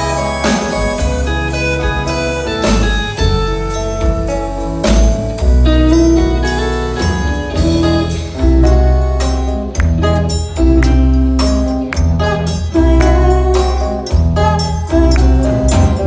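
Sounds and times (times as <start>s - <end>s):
instrumental band music: 0.0s - 16.0s.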